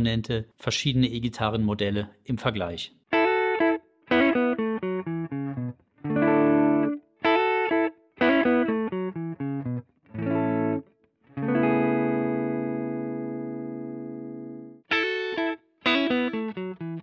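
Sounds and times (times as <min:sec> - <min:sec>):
electric guitar chord riff: 0:03.1 - 0:17.0.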